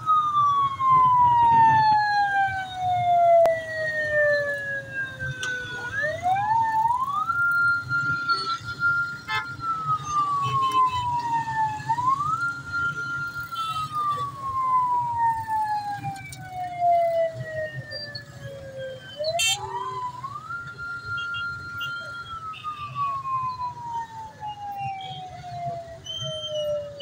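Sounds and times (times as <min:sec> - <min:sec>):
traffic: 0:00.0 - 0:27.0
vehicle siren wailing: 0:00.0 - 0:27.0.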